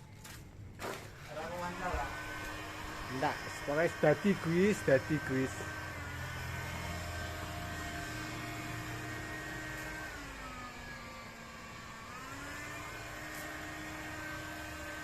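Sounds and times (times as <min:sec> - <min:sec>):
motor running: 0:01.2 - 0:15.0.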